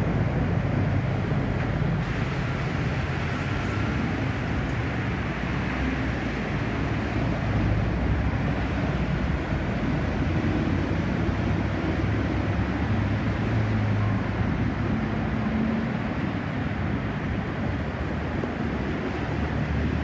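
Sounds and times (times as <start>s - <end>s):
city road traffic rumble: 0.0s - 20.0s.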